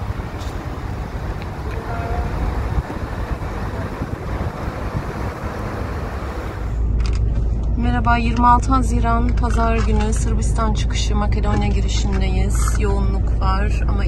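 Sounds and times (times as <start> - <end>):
vehicle noise: 0.0 - 14.0
wind rumbling on microphone: 0.0 - 14.0.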